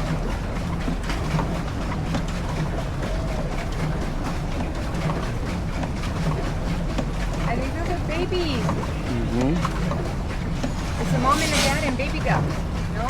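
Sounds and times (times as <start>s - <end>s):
pedal boat churning: 0.0s - 13.0s
water rushing: 0.0s - 13.0s.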